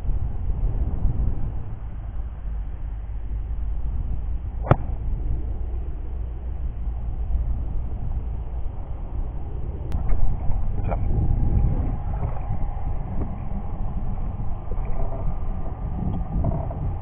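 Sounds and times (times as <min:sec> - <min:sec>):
faint steady whine: 0:00.0 - 0:17.0
small vehicle engine rumble: 0:00.0 - 0:17.0.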